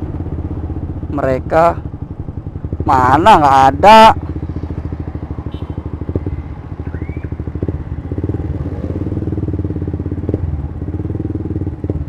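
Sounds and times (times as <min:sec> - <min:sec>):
motorcycle engine pulsing: 0:01.8 - 0:12.0.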